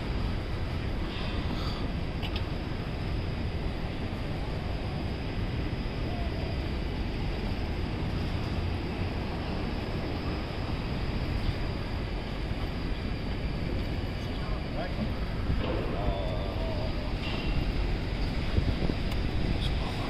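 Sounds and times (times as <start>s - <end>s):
traffic rumble and hiss: 0.0s - 20.0s.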